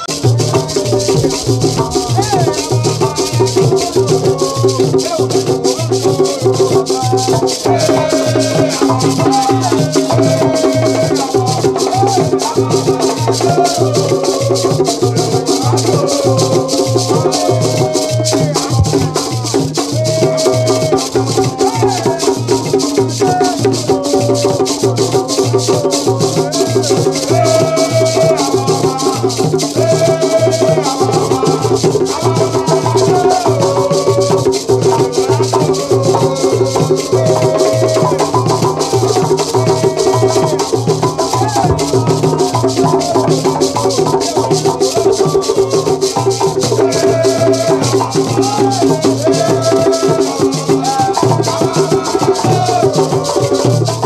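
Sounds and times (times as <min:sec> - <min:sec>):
men singing together: 0:00.0 - 0:54.0
wooden box drums: 0:00.0 - 0:54.0
beaded gourd rattles: 0:00.2 - 0:54.0.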